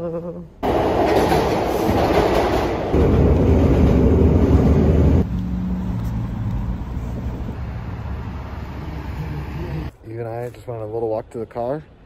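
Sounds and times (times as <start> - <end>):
train car rumbling ride noise: 0.6 - 10.8.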